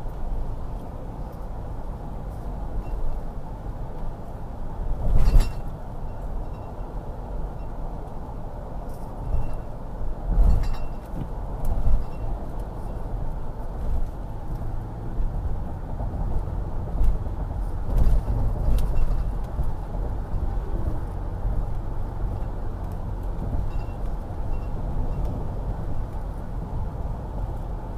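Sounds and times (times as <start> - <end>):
road and engine rumble: 0.0 - 27.9.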